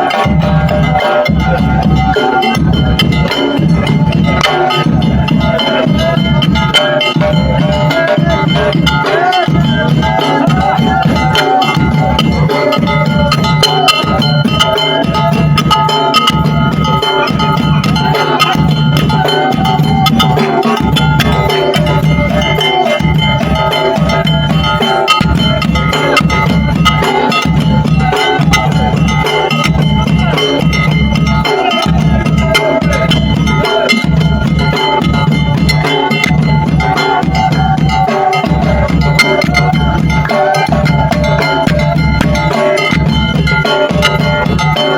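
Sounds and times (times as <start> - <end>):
drums beating fast rhythm: 0.0 - 44.9.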